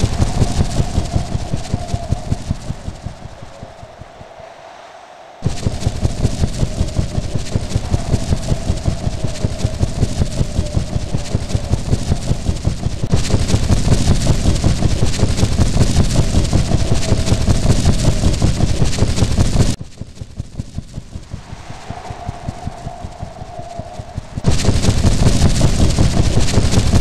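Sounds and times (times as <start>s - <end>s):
train rumbling: 0.0s - 4.2s, 5.4s - 19.2s, 20.8s - 27.0s.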